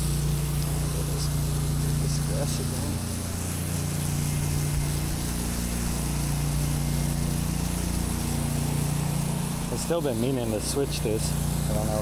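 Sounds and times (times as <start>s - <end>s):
pressure washer engine humming: 0.0s - 12.0s
water spray hissing on grass: 0.0s - 12.0s.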